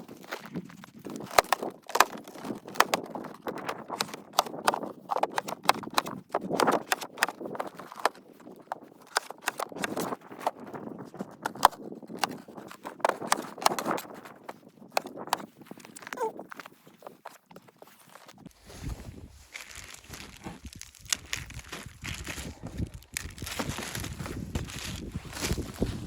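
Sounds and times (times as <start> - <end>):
soft crunching: 0.0 - 26.0.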